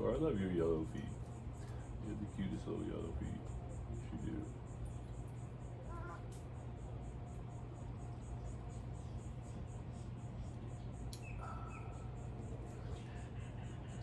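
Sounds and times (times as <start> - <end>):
high-pitched insect trill: 0.0 - 14.0
low steady hum: 0.0 - 14.0.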